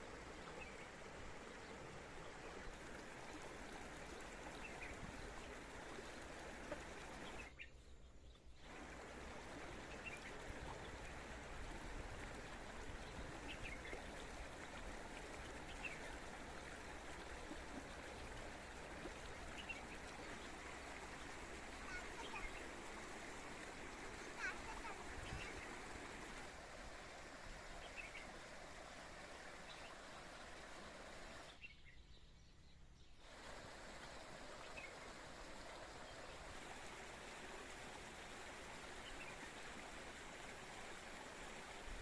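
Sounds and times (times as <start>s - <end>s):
spring water flowing: 0.0s - 31.6s, 33.2s - 42.0s.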